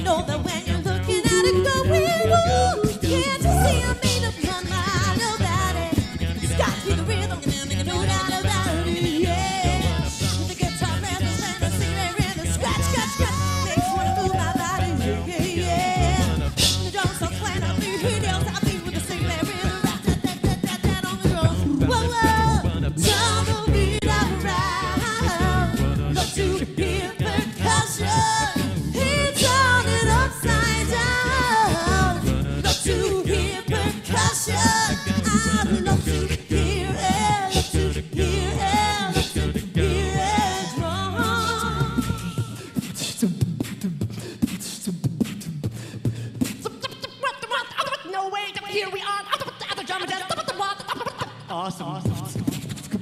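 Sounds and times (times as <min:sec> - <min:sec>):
sung bass line: 0:00.0 - 0:42.6
a cappella group singing: 0:00.0 - 0:45.9
beatboxed vocal percussion: 0:00.0 - 0:53.0.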